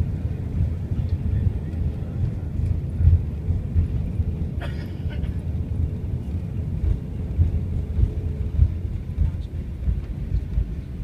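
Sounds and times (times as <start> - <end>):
airplane cabin rumble on runway: 0.0 - 11.0.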